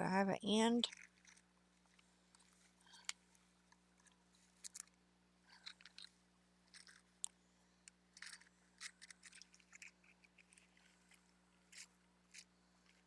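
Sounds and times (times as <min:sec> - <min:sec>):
hands rustling trim: 0:00.9 - 0:13.0.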